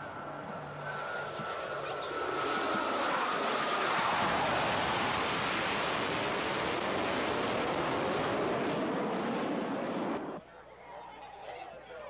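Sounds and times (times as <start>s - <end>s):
jets roaring overhead: 0.0s - 10.4s.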